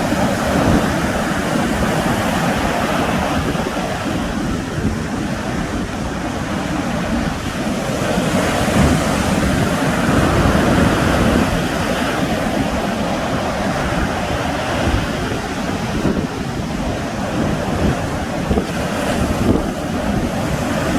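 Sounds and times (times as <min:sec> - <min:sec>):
sea waves breaking on shore: 0:00.0 - 0:20.9
wind buffeting microphone: 0:00.0 - 0:20.9.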